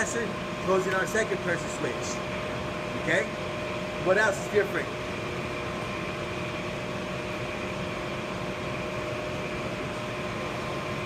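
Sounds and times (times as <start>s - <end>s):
furnace motors whirring: 0.0s - 11.0s.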